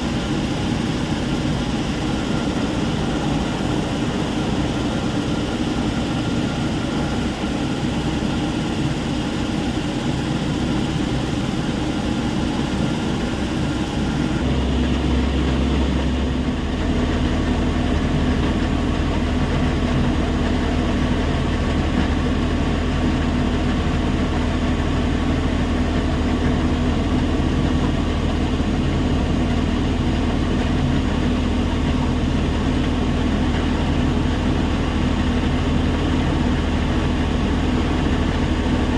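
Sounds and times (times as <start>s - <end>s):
diesel machinery rumble: 0.0s - 38.9s
steady hum: 0.0s - 38.9s.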